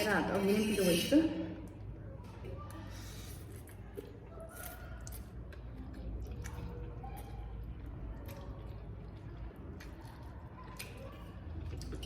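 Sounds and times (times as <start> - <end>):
wet squishy chewing: 1.5 - 12.0.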